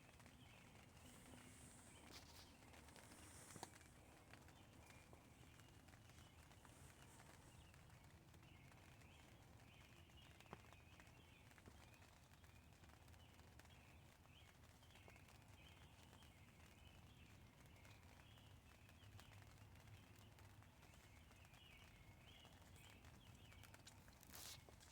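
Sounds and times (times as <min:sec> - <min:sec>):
light rain ticking on a tent: 0:00.0 - 0:24.9.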